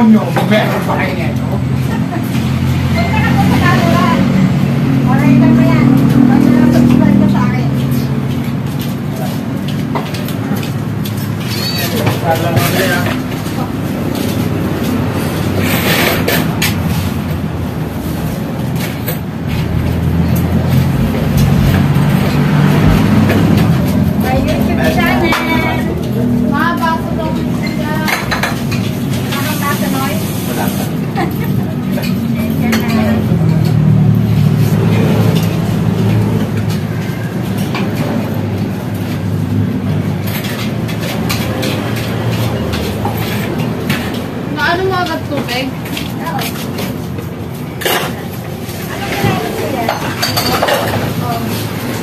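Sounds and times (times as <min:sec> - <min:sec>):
vehicle engine running: 0:00.0 - 0:11.5, 0:12.2 - 0:49.9.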